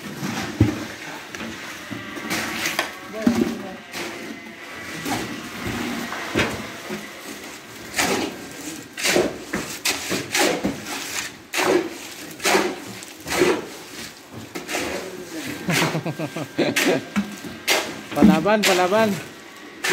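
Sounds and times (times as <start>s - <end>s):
shovel scraping mortar on concrete: 2.2s - 19.9s.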